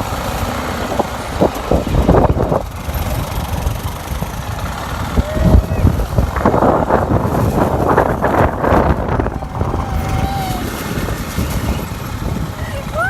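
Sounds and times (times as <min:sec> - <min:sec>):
quad bike engine rumble: 0:00.0 - 0:13.0.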